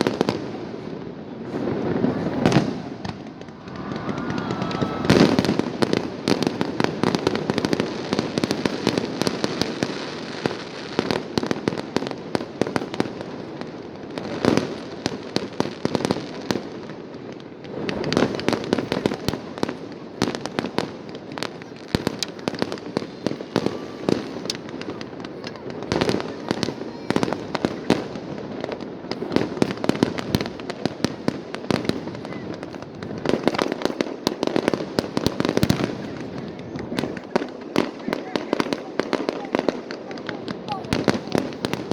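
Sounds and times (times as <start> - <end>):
fireworks booms: 0.0 - 41.9
fireworks crackling: 0.0 - 41.9.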